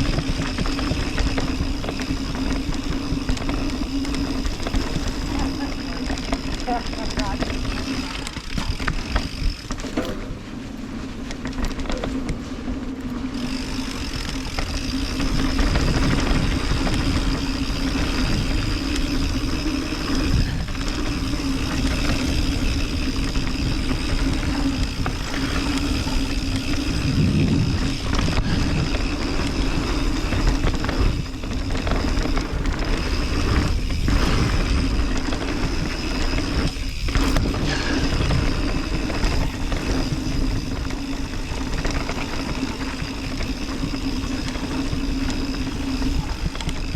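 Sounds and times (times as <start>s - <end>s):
bike knocks and rattles: 0.0s - 46.9s
bike tyres rolling on dirt: 0.0s - 46.9s.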